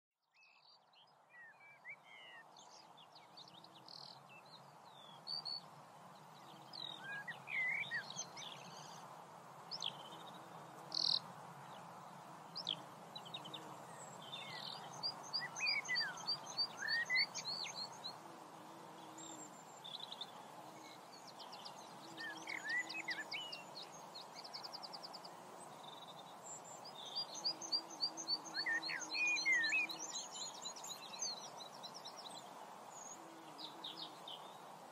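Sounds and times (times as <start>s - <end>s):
songbirds singing: 0.2s - 34.9s
background hiss: 0.4s - 34.9s.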